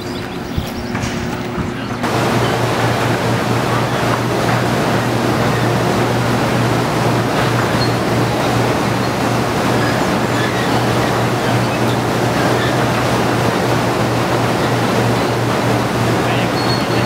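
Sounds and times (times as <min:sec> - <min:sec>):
factory machinery running: 0:00.0 - 0:17.0.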